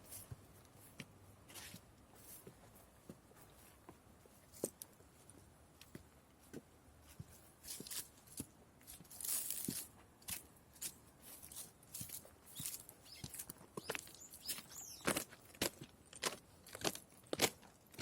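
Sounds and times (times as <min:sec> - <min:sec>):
faint scuffs and clicks: 0:00.0 - 0:17.5.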